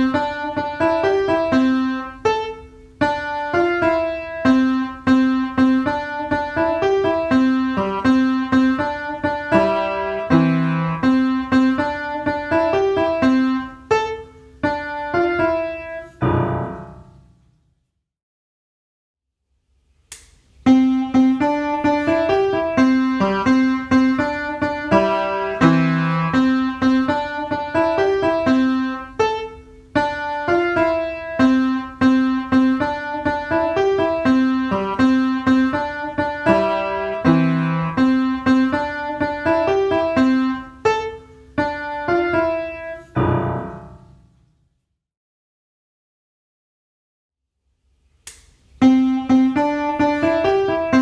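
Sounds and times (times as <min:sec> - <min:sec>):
piano music: 0:00.0 - 0:17.4, 0:20.6 - 0:44.4, 0:48.8 - 0:51.0.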